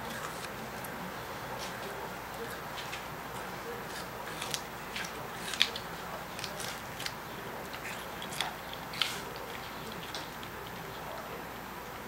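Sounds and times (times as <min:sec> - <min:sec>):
dog chewing watermelon rind: 0:00.0 - 0:12.0.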